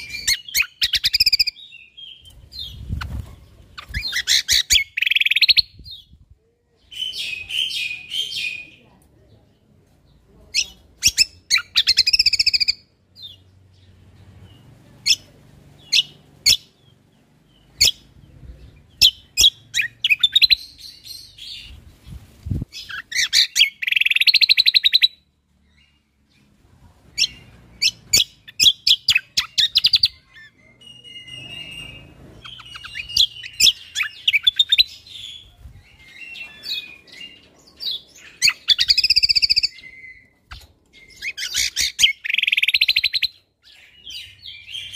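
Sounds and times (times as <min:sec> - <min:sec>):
songbird chirping rapidly: 0:00.0 - 0:44.9.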